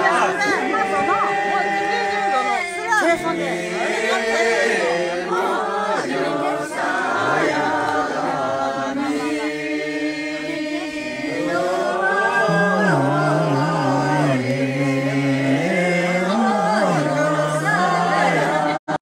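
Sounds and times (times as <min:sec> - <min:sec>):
group of voices singing: 0:00.0 - 0:19.0.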